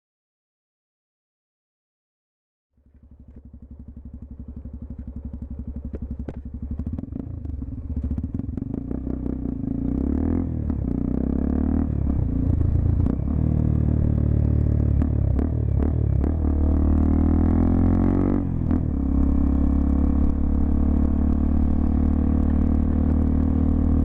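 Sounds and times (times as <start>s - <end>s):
motorcycle engine running: 2.8s - 24.0s.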